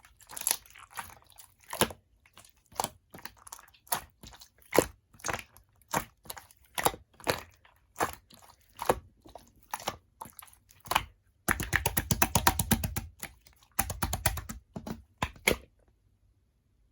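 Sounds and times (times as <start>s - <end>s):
slime squished by hand: 0.0s - 15.7s.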